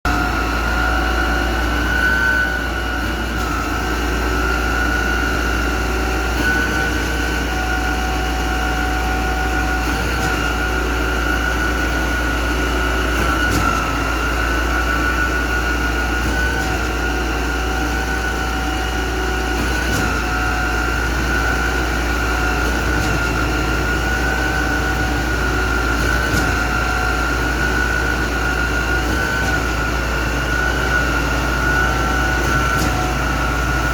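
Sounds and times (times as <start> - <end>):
machinery deep rumble: 0.0 - 33.9
machinery high whine: 0.1 - 33.9.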